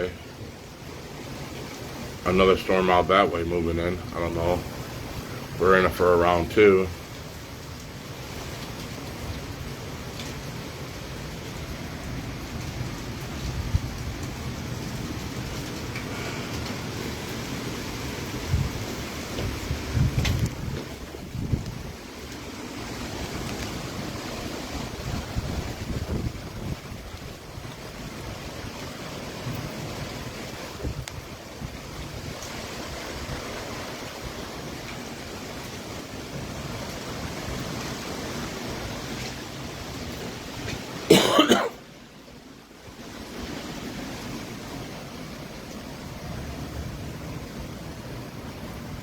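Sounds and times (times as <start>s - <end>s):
storm wind gusting across microphone: 1.0s - 41.1s.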